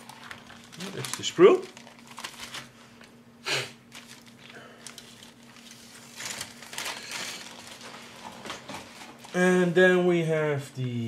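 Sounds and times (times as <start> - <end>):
plastic bag crinkling: 0.0 - 3.1, 3.9 - 9.6.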